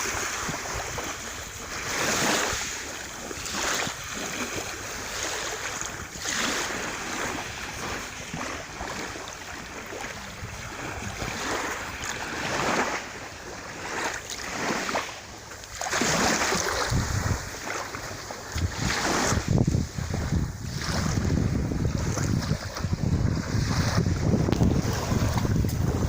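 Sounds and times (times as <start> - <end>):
wind buffeting microphone: 0.0 - 13.2, 16.0 - 26.0
sea waves washing: 0.0 - 26.0.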